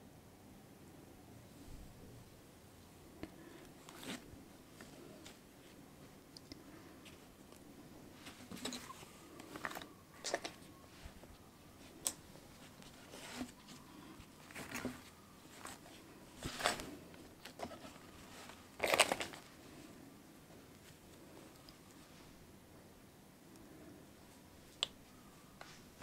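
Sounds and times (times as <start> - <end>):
rustling of thread and canvas: 3.2 - 22.5, 23.8 - 26.0.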